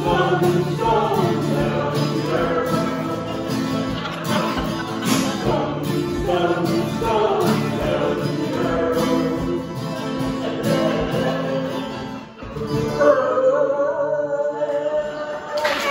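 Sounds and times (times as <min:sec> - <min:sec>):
acoustic guitars strumming: 0:00.0 - 0:15.9
group of voices singing: 0:00.0 - 0:15.9.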